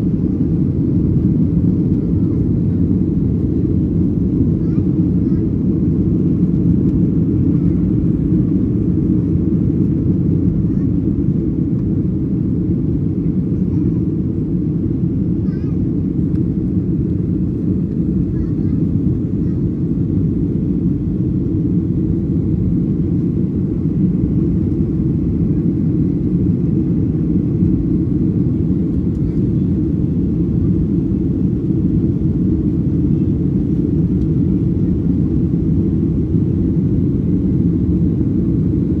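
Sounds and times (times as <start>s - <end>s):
aircraft cabin engine rumble: 0.0s - 39.0s.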